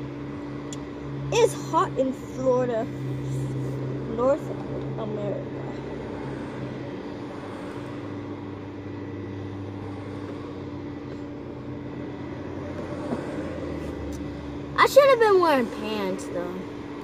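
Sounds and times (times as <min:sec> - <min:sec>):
vehicle hum: 0:00.0 - 0:17.0.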